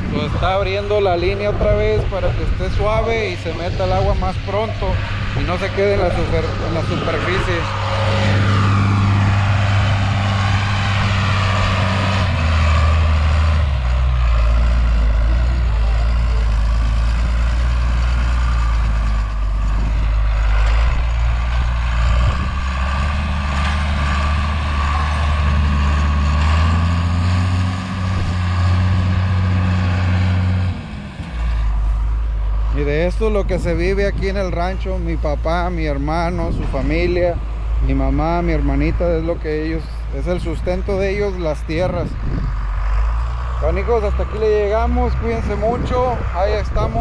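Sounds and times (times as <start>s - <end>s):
tractor diesel engine droning: 0.0s - 47.0s.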